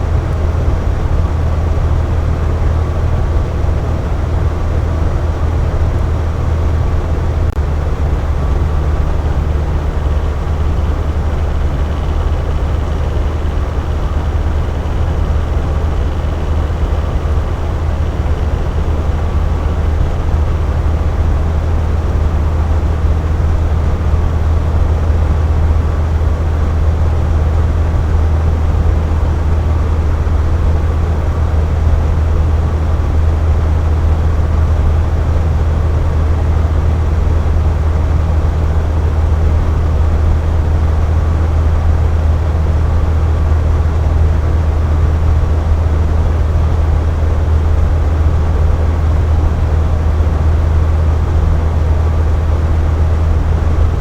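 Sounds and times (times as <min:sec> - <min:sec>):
box fan running: 0:00.0 - 0:54.0.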